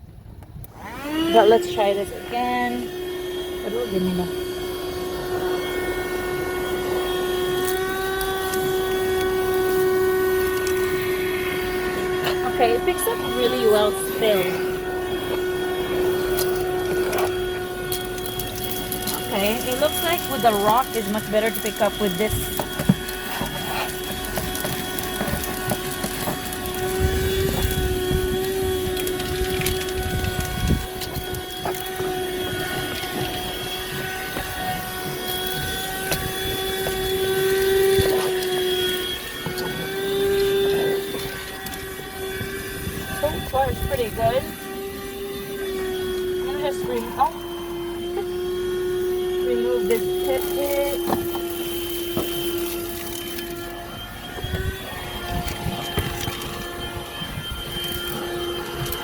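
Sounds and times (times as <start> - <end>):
handheld vacuum motor whine: 0.0 - 59.0
grit ticking up vacuum nozzle: 1.6 - 59.0.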